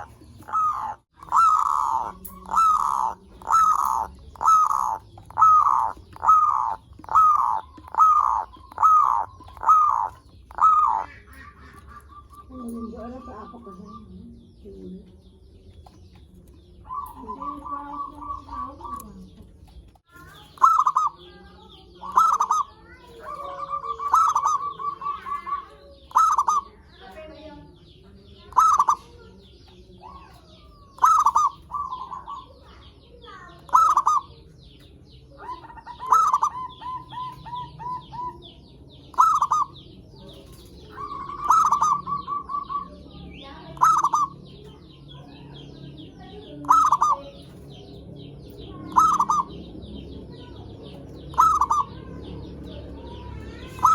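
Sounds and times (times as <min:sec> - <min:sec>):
dove cooing: 0:00.0 - 0:53.9
dove trilling: 0:00.0 - 0:53.9.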